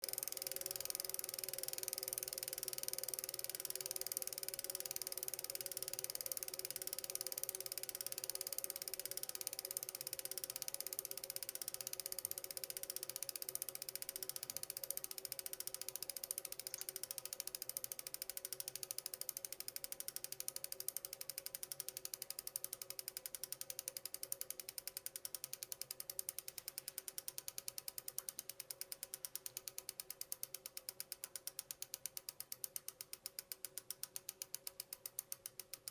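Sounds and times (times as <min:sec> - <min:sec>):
bicycle freewheel hub clicking: 0:00.0 - 0:35.9.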